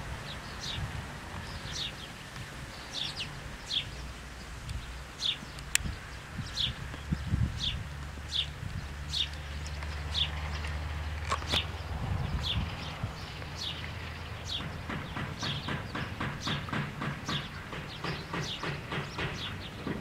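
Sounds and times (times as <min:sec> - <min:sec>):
wind rumble on microphone: 0:00.0 - 0:17.4
small bird chirping: 0:00.2 - 0:19.9.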